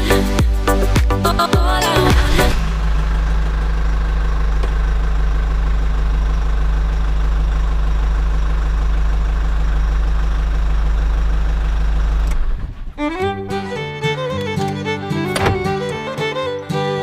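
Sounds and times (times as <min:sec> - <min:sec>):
tractor engine idling: 0:00.0 - 0:16.9.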